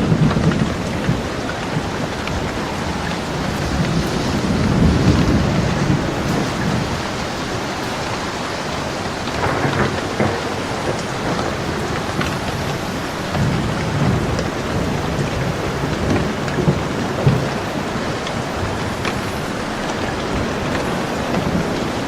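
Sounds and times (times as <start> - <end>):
low rolling thunder: 0.0 - 22.0
steady rain: 0.0 - 22.0.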